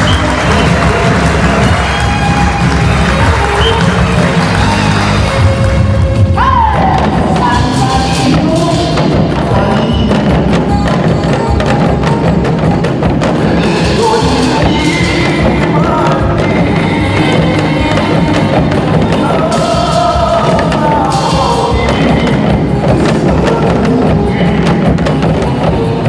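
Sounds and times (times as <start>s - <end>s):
drums beaten with sticks: 0.0s - 26.0s
trot music: 0.0s - 26.0s.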